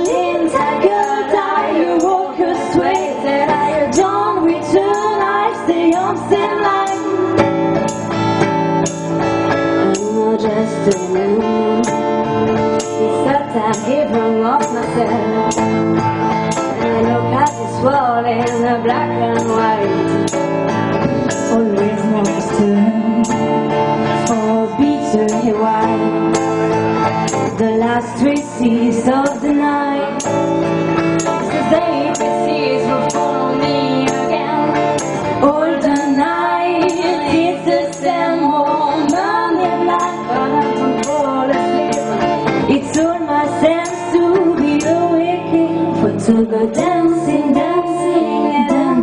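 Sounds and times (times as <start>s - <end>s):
electric guitar: 0.0s - 49.0s
rock band playing live: 0.0s - 49.0s.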